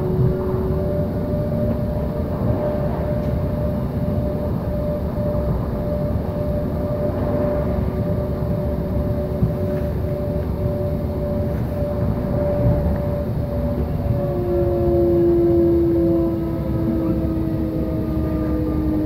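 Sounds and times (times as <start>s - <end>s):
train wheels rumbling on rails: 0.0s - 19.0s
two-note electric hum: 0.0s - 19.0s.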